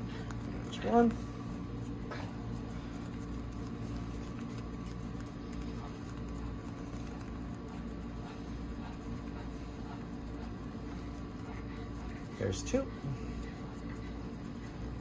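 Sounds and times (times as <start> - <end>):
hands patting dough: 0.0 - 12.4.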